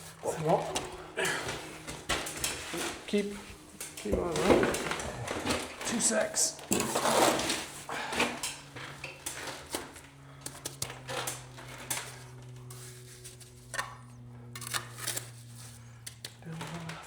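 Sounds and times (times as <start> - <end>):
faint low hum: 0.0 - 17.0
trowel scraping mortar: 0.0 - 17.0.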